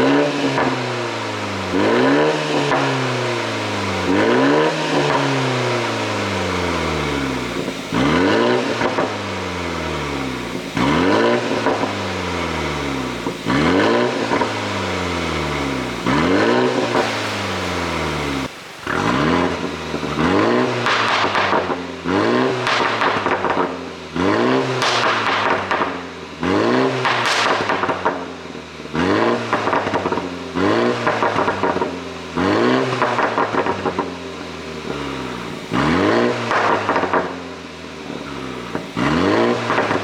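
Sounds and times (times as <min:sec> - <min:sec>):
car engine revving: 0:00.0 - 0:40.0
exhaust pops and crackles: 0:00.0 - 0:40.0.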